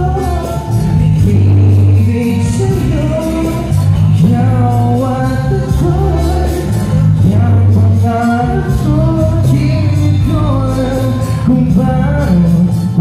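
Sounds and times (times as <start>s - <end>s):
instrumental accompaniment: 0.0s - 13.0s
man singing into a microphone: 0.0s - 13.0s.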